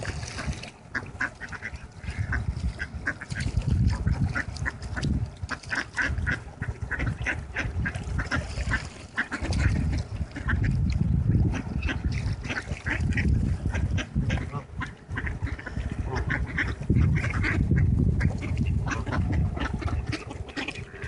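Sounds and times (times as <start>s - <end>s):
ducks quacking: 0.0s - 21.0s.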